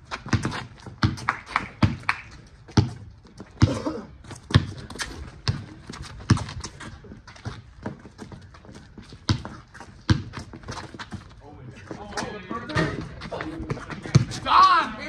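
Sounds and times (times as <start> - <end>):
basketball bouncing on concrete: 0.0 - 11.3, 12.7 - 14.5.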